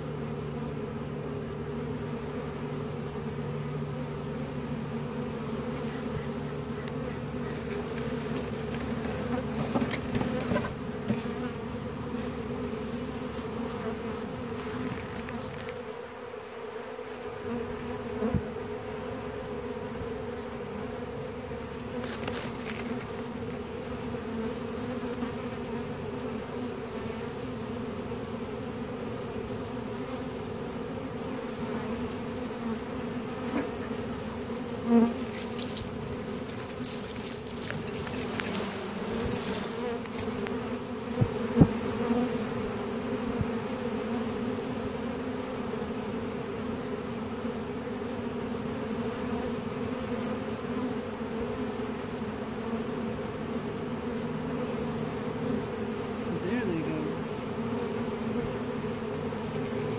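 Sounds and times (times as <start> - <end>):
bee swarm buzzing: 0.0 - 59.9
single bees flying past: 0.0 - 59.9.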